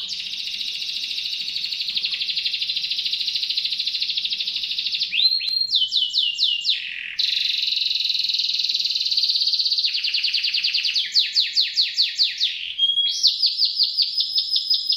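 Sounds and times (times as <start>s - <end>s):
canary singing: 0.0s - 14.9s.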